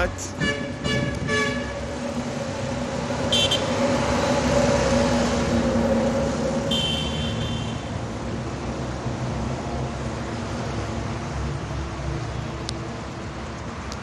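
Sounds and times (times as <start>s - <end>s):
vehicle engine and tyre rush: 0.0s - 14.0s.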